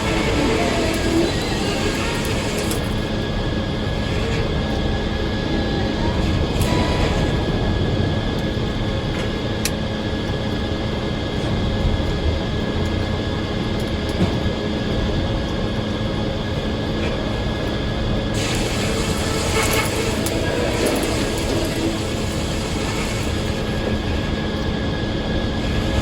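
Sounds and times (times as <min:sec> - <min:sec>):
circular sawmill droning: 0:00.0 - 0:13.9, 0:14.7 - 0:26.0.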